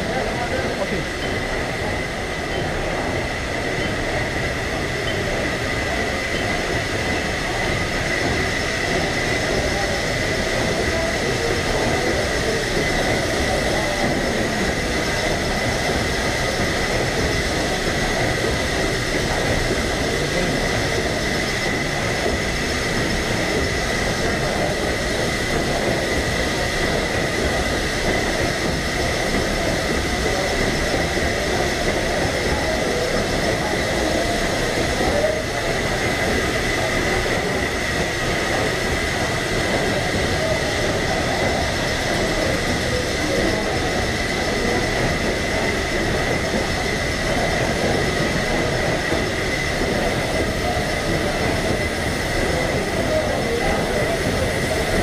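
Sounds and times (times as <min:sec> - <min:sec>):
thin high whine: 0:00.0 - 0:54.5
steam engine machinery noise: 0:00.0 - 0:55.0.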